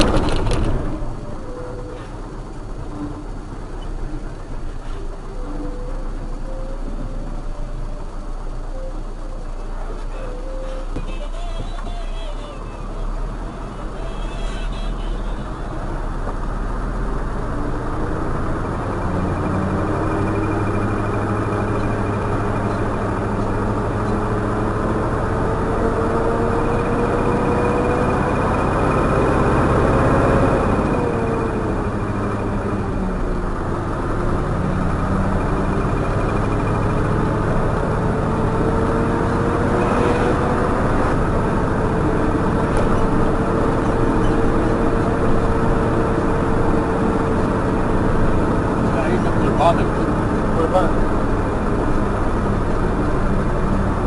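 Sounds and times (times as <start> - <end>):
road noise: 0.0 - 54.0
truck engine from inside cab: 0.0 - 54.0.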